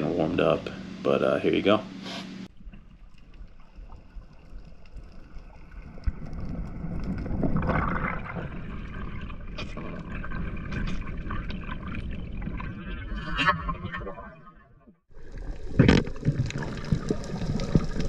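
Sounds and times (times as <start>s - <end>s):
muffled underwater rush: 2.5s - 18.0s.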